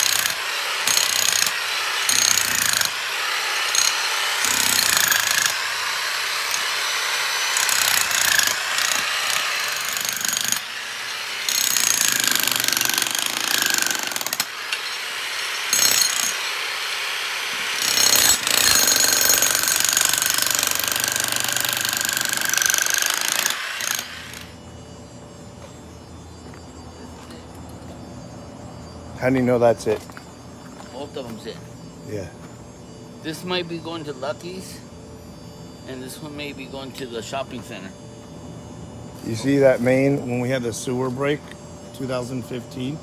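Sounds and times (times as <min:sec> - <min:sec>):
power tool whining: 0:00.0 - 0:34.8.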